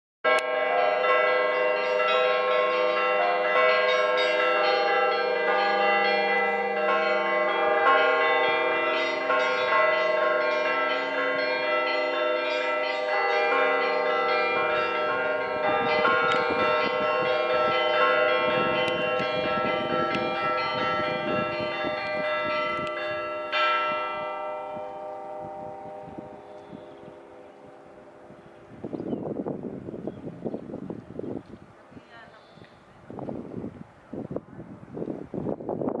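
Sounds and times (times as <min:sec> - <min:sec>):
church bells ringing a peal: 0:00.3 - 0:31.3.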